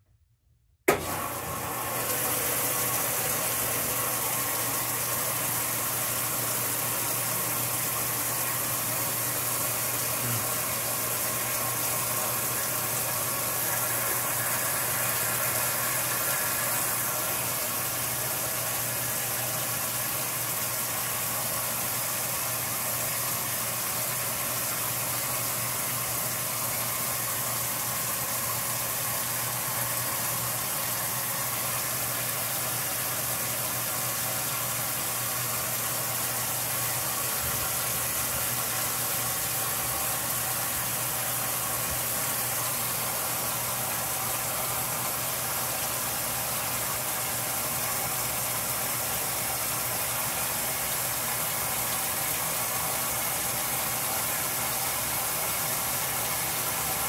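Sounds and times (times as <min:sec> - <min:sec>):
washer low hum: 0:00.9 - 0:57.0
water rushing into washer tub: 0:00.9 - 0:57.0.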